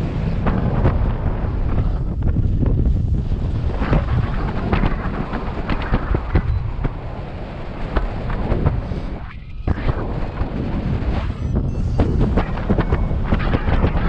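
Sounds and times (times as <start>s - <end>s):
wind rumbling over microphone: 0.0s - 14.0s.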